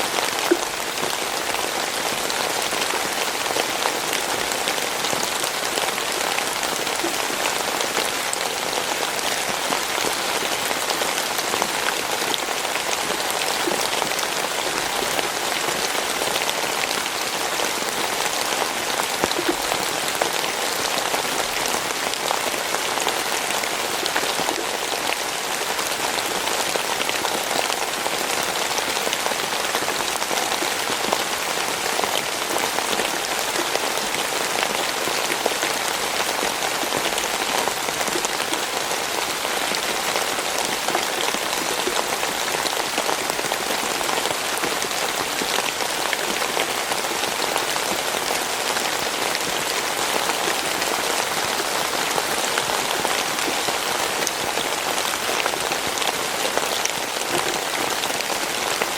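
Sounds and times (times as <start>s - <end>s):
steady rain pattering: 0.0s - 58.9s.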